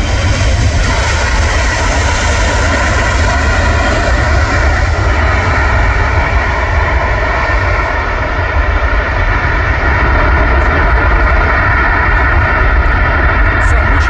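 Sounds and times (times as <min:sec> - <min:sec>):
deep rumble: 0:00.0 - 0:14.0
jet engines running loud: 0:00.0 - 0:14.0.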